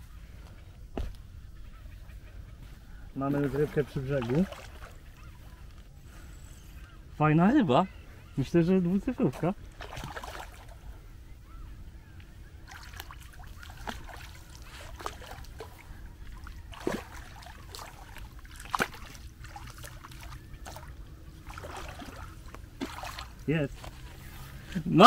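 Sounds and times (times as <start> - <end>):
water splashing and sloshing: 0.4 - 6.0, 8.6 - 11.6, 12.5 - 25.0.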